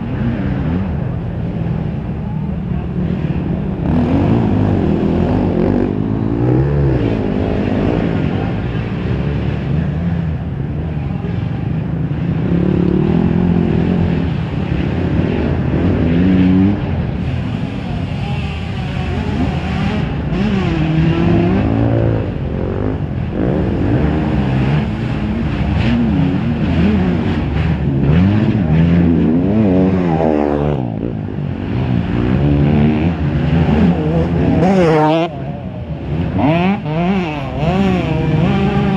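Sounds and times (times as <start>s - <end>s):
motorcycle engines racing: 0.0s - 38.9s.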